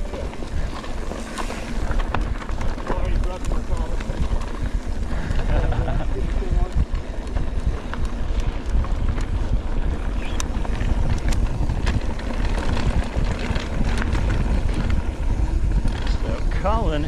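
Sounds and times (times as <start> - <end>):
bike clicks and rattles: 0.0 - 17.0
bike tyres rolling on dirt: 0.0 - 17.0
wind buffeting microphone: 0.0 - 17.0.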